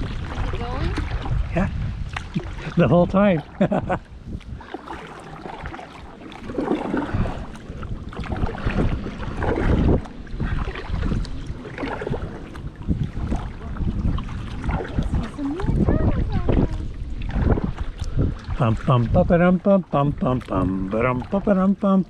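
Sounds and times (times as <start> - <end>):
wind on microphone: 0.0 - 21.8
paddle splashing water: 0.0 - 22.0.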